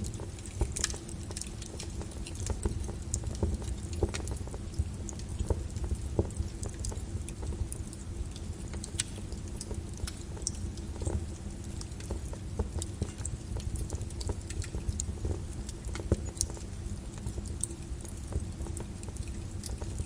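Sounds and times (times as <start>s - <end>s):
lava crackling and popping: 0.0s - 20.0s.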